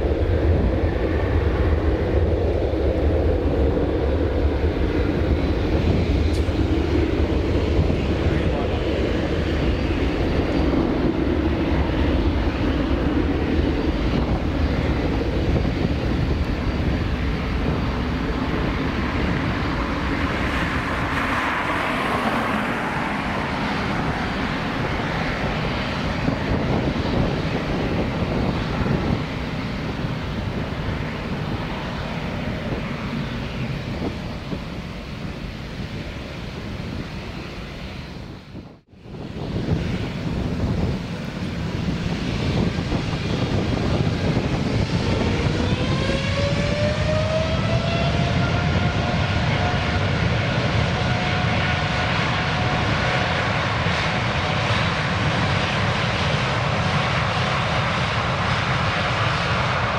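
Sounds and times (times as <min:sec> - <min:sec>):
jet engines of taxiing airliner: 0:00.0 - 0:59.9.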